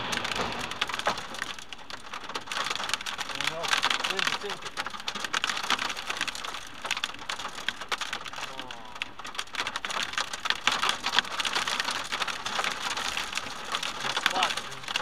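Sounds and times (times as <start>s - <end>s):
rain pelting car windshield: 0.0s - 15.0s.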